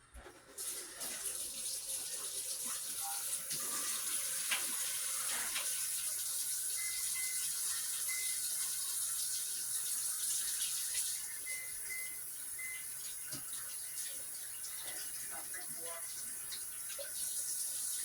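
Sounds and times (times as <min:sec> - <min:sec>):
faucet water running into sink: 0:00.3 - 0:18.0.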